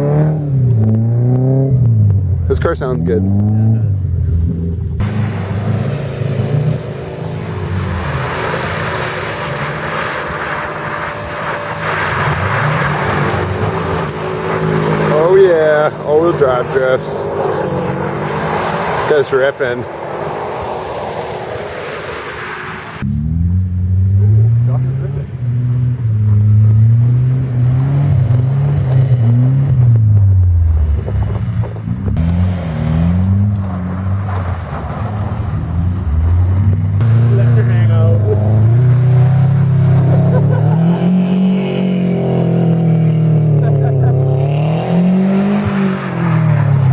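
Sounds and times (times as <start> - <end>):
car engine running hard: 0.0 - 46.9.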